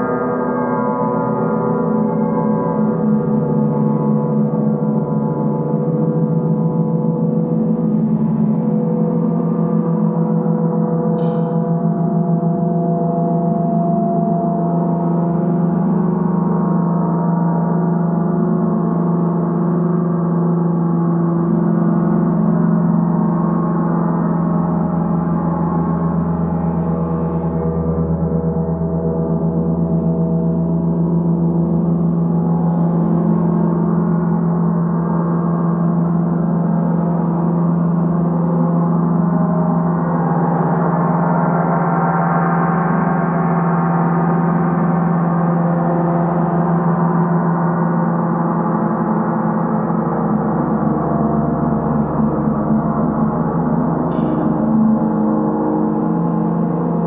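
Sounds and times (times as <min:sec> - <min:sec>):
large gong ringing: 0:00.0 - 0:57.0.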